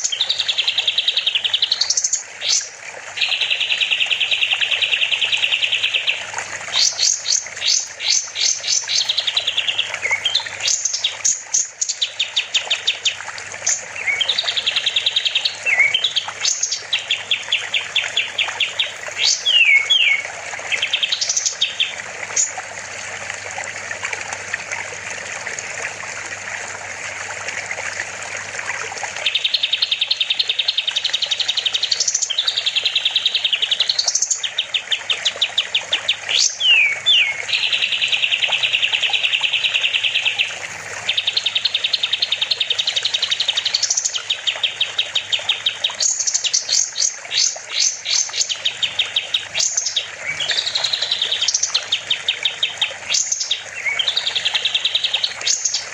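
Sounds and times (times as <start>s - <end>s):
trickling water: 0.0s - 55.9s.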